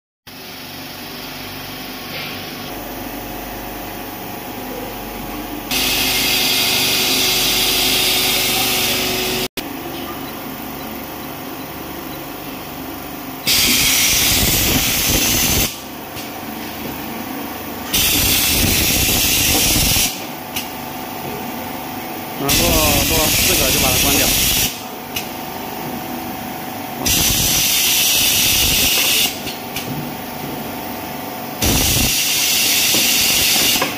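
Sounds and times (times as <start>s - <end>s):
machine humming: 0.6s - 33.9s.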